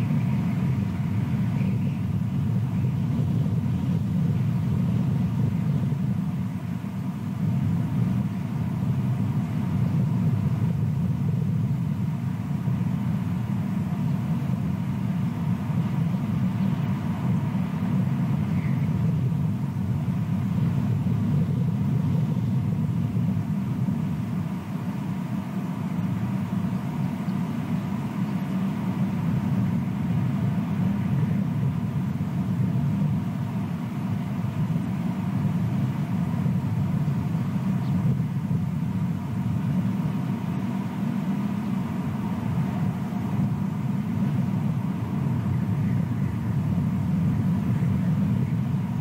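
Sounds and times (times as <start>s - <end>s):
low outdoor background rumble: 0.0s - 49.0s.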